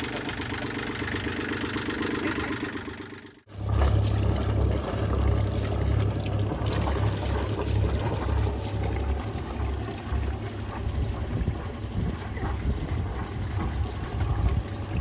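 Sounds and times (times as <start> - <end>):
diesel engine throbbing: 0.0 - 15.0.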